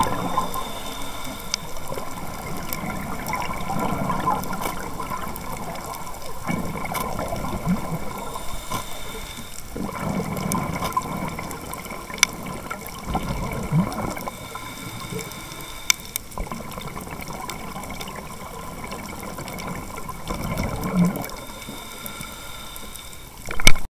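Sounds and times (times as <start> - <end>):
regulator bubbles gurgling: 0.0 - 23.8
steady underwater hiss: 0.0 - 23.8.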